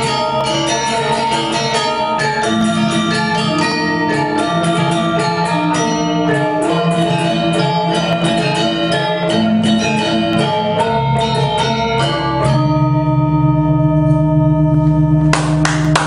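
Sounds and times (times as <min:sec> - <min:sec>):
gamelan playing: 0:00.0 - 0:16.0.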